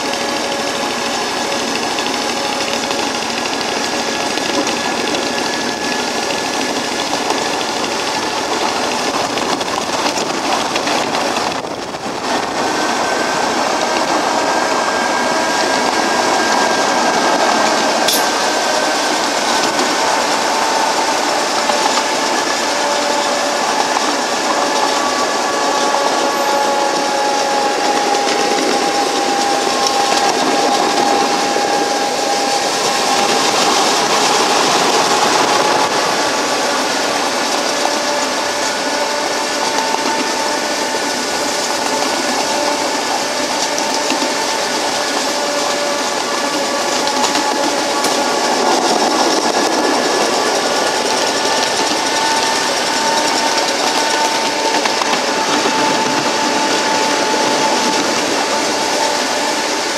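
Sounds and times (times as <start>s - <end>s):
miniature locomotive running: 0.0s - 59.9s
wheels on rails: 0.0s - 59.9s.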